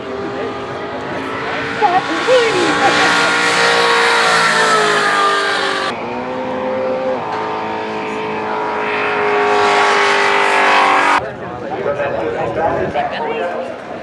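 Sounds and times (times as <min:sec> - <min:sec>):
engines revving high: 0:00.0 - 0:11.2.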